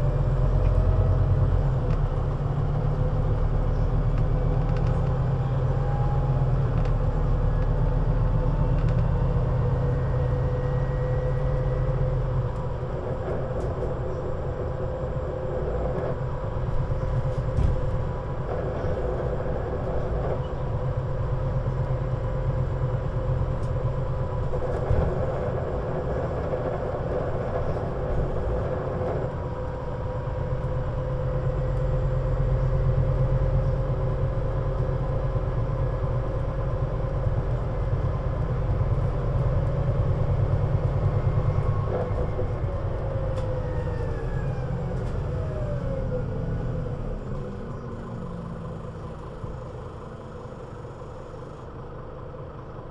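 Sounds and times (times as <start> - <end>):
bus engine humming: 0.0 - 52.9
engine whine: 0.0 - 52.9.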